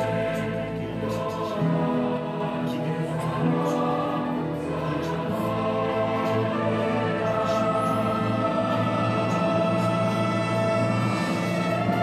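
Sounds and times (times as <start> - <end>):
slow music of long-held chords: 0.0 - 12.0.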